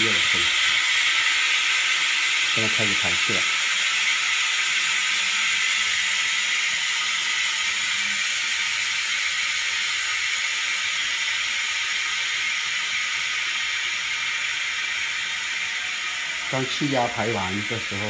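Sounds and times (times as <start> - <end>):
compressed air hissing: 0.0 - 18.0.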